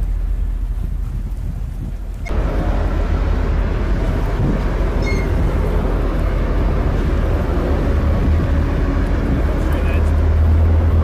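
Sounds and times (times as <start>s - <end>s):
diesel engine rumble: 0.0s - 11.0s
wind buffeting microphone: 0.0s - 11.0s.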